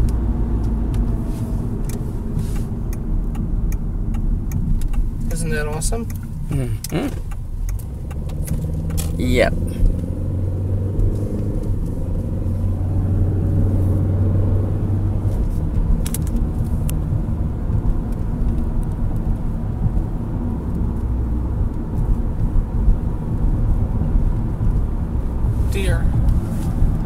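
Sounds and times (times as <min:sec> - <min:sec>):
car engine hum: 0:00.0 - 0:27.0
tyre and road rumble: 0:00.0 - 0:27.0.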